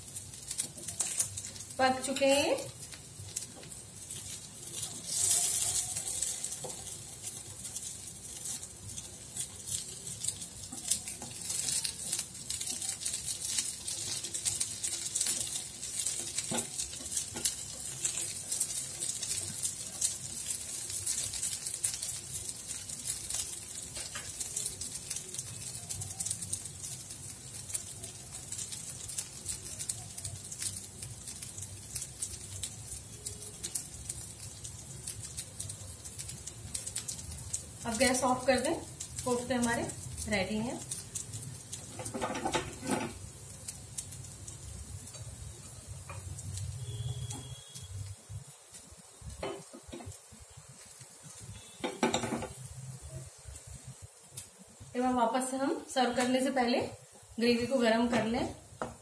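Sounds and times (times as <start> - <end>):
food sizzling in oil: 0.0 - 59.0
oil popping and crackling: 0.0 - 59.0.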